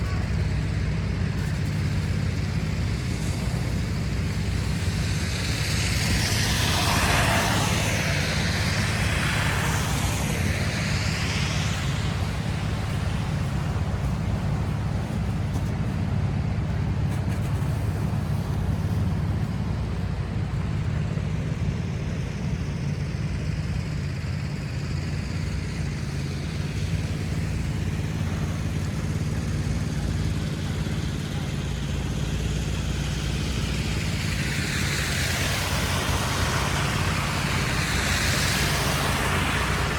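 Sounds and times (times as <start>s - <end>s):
traffic engines rumbling: 0.0s - 39.9s
vehicle passing with tyre hiss: 0.0s - 39.9s.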